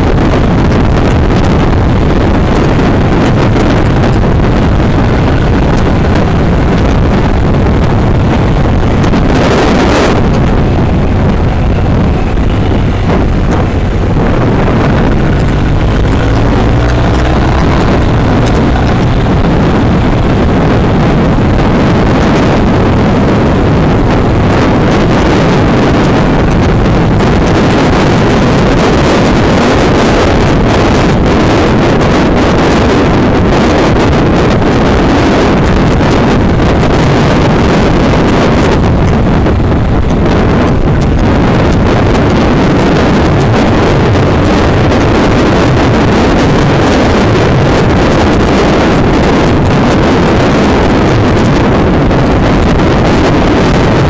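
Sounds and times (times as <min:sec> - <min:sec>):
motorcycle engine running: 0:00.0 - 0:54.0
wind roar on microphone: 0:00.0 - 0:54.0.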